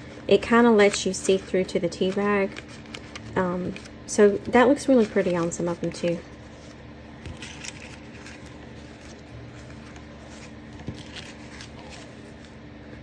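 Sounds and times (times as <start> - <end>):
steady low hum: 0.0 - 13.0
paper rustling: 0.3 - 13.0.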